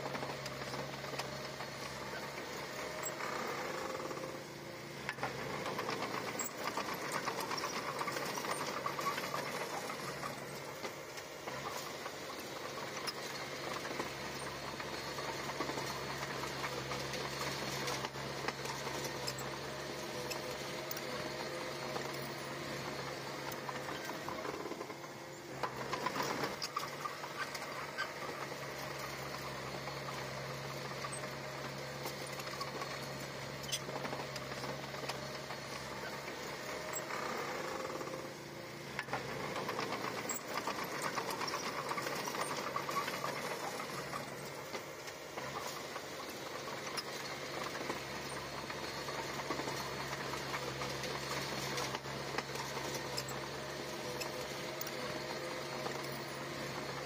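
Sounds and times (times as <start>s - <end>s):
bulldozer diesel engine rattling: 0.0s - 57.0s.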